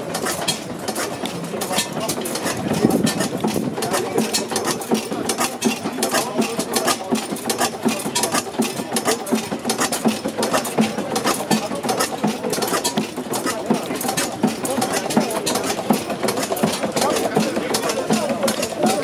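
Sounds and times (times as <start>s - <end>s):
stationary gas engine running: 0.0s - 19.0s.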